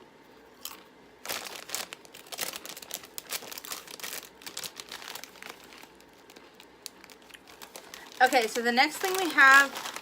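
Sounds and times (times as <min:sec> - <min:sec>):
foil chip bag crackling: 0:01.2 - 0:10.0.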